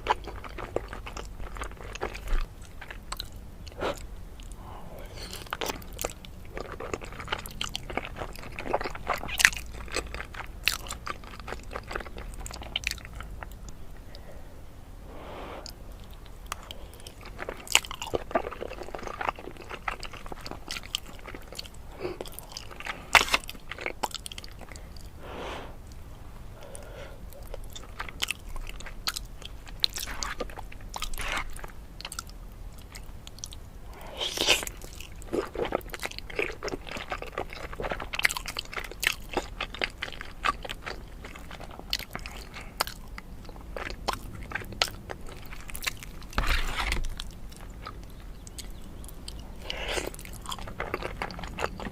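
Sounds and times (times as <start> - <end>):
person chewing crunchy food: 0.0 - 14.4, 15.1 - 51.9.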